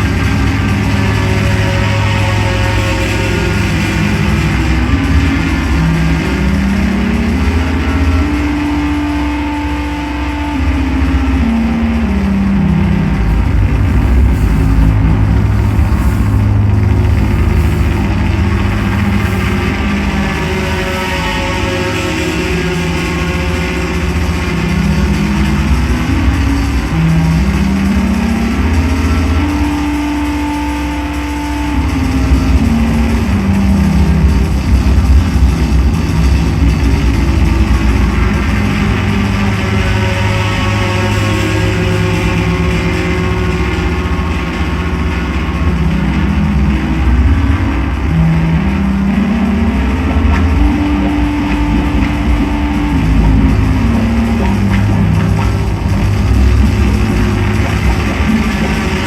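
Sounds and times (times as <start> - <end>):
drone noise music: 0.0 - 59.0.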